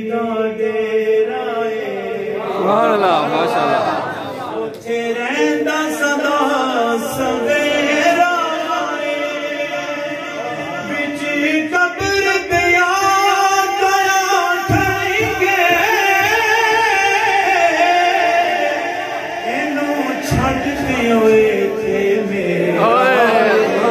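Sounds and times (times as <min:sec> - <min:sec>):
man singing into a microphone: 0:00.0 - 0:02.6, 0:04.8 - 0:23.9.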